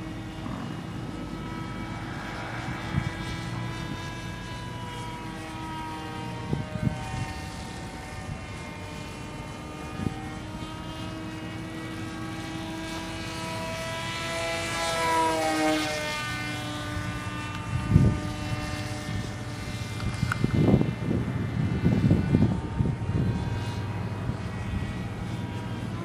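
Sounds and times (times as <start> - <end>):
model jet motor whine: 0.0 - 26.0.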